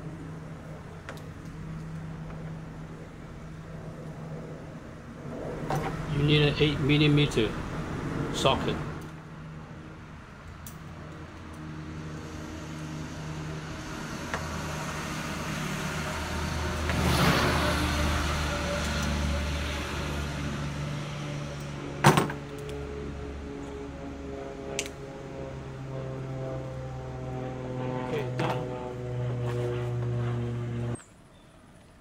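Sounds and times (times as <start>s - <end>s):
motor vehicle passing: 0.0s - 31.0s
steady low hum: 0.0s - 31.3s.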